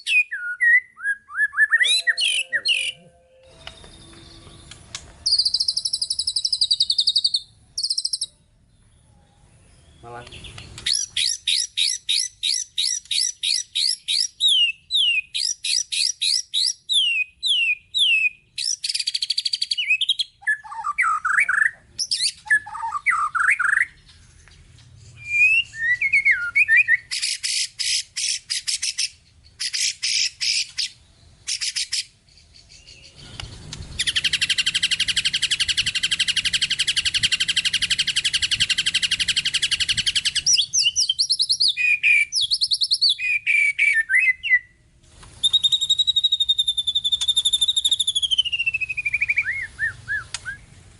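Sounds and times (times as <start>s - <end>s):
bird singing varied song: 0.0s - 50.9s.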